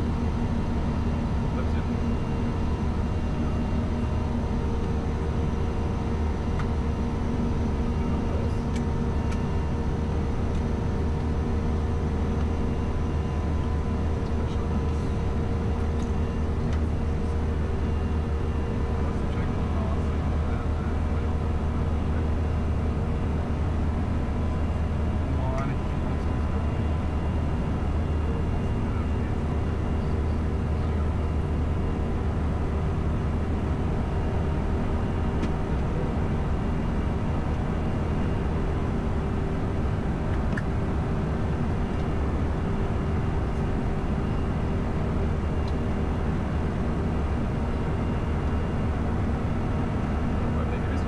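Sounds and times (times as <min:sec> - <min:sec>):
aircraft engine and airflow rumble: 0:00.0 - 0:51.0.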